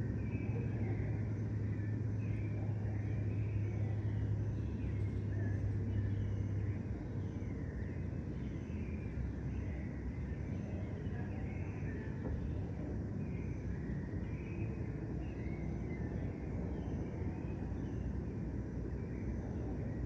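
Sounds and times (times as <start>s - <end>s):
road traffic rumble: 0.0s - 20.0s
birds chirping: 0.1s - 20.0s.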